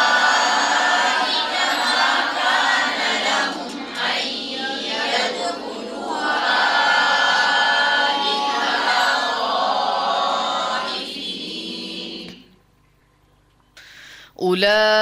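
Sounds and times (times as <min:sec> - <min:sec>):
group chanting in chorus: 0:00.0 - 0:12.6.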